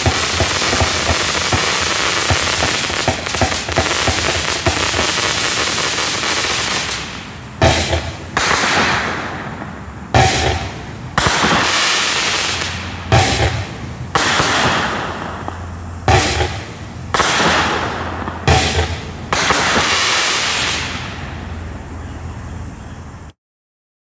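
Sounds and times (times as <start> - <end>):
fireworks volleys: 0.0 - 22.0.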